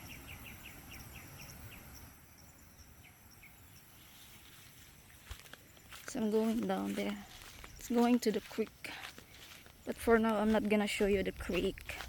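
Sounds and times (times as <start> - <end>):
insect chirps: 0.0 - 12.0
insects droning: 0.0 - 12.0.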